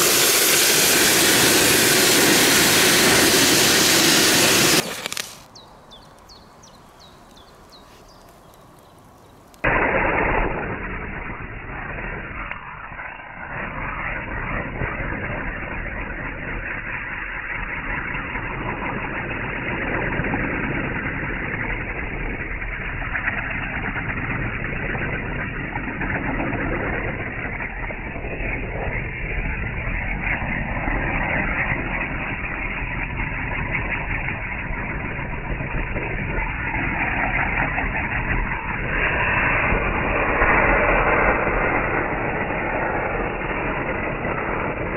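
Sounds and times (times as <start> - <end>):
firecrackers hissing: 0.0 - 44.9.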